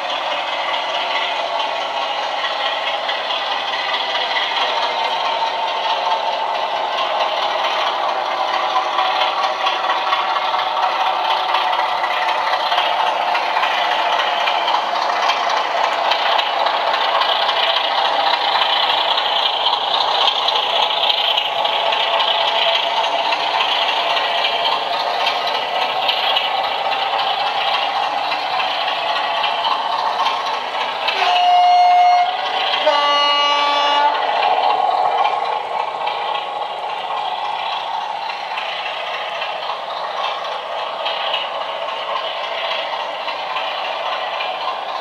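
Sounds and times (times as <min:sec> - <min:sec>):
model train rattling on track: 0:00.0 - 0:45.0.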